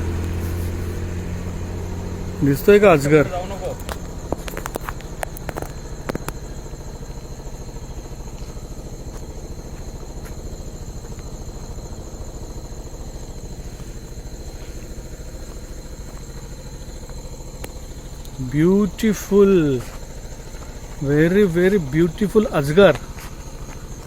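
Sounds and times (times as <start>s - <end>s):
small engine idling: 0.0s - 24.0s.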